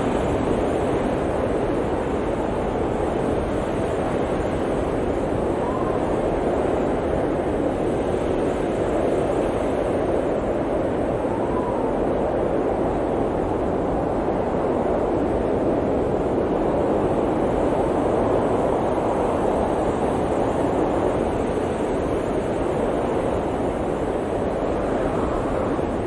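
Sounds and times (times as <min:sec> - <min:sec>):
blizzard wind blowing: 0:00.0 - 0:26.0.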